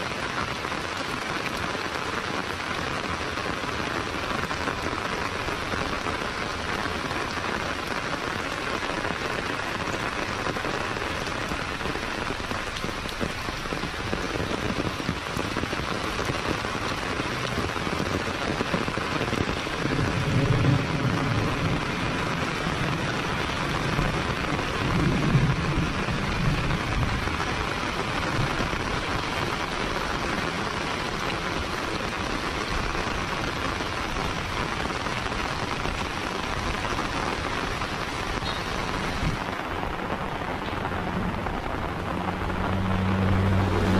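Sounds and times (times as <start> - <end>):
heavy rain on pavement: 0.0 - 43.9
thunder rumbling: 8.5 - 43.9.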